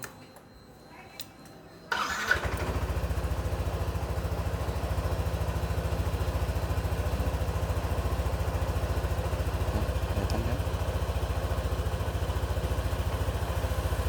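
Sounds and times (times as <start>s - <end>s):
motorcycle engine idling: 1.9s - 14.0s
motorcycle starter whirr: 1.9s - 14.0s.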